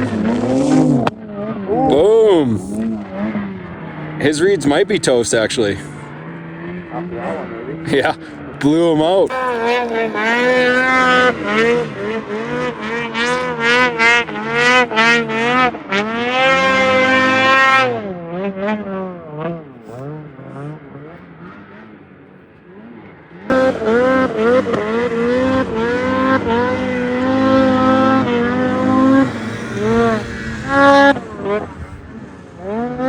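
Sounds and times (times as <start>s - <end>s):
snowmobile engine revving: 0.0s - 21.9s, 23.5s - 33.0s.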